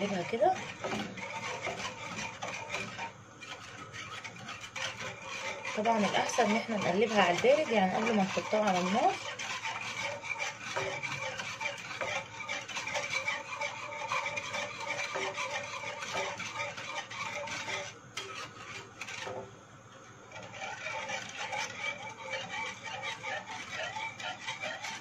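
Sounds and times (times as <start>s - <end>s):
whisk scraping a pot: 0.0s - 25.0s.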